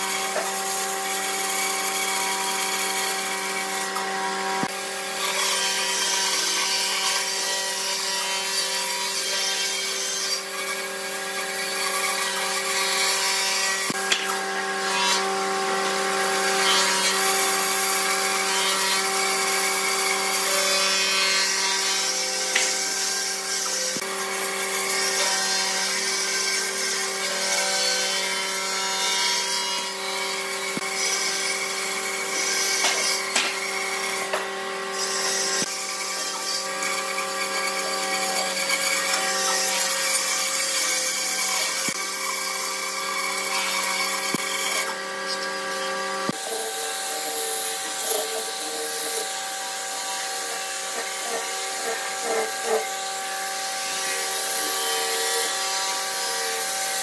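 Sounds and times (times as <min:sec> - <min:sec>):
bandsaw humming: 0:00.0 - 0:57.0
saw blade cutting wood: 0:00.0 - 0:57.0.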